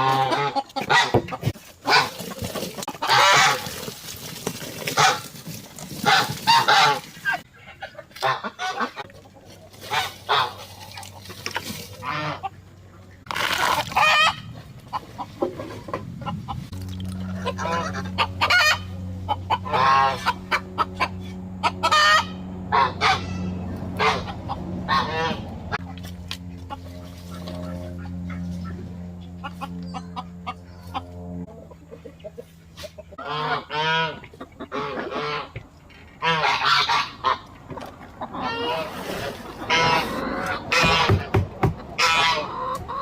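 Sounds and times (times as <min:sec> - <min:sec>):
goose-like honks: 0:00.0 - 0:02.2, 0:02.9 - 0:03.8, 0:04.9 - 0:05.3, 0:06.0 - 0:09.1, 0:09.8 - 0:10.7, 0:11.5 - 0:13.1, 0:13.9 - 0:32.0, 0:32.7 - 0:35.6, 0:36.2 - 0:37.5, 0:38.2 - 0:41.3, 0:42.0 - 0:43.0
chickens clucking: 0:00.0 - 0:43.0
steady low hum: 0:04.9 - 0:43.0.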